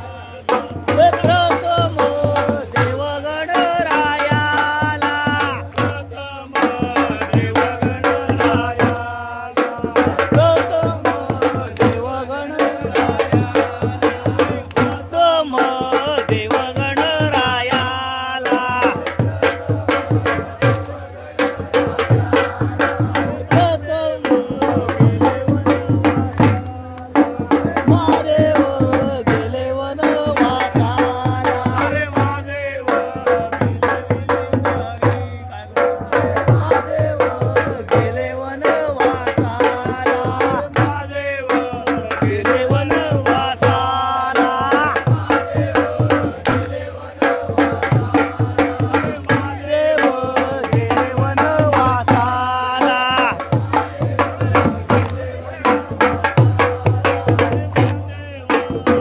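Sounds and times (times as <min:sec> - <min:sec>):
hand drum beating: 0:00.6 - 0:59.0.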